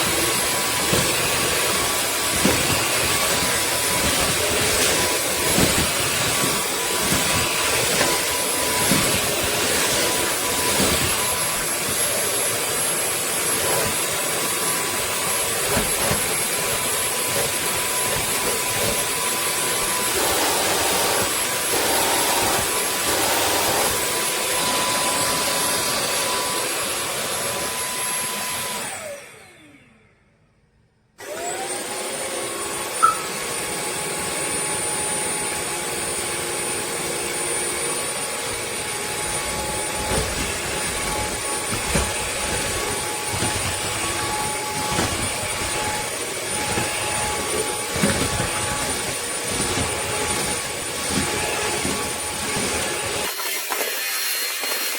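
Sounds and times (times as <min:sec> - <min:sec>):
floor vacuum motor whine: 0:00.0 - 0:54.9.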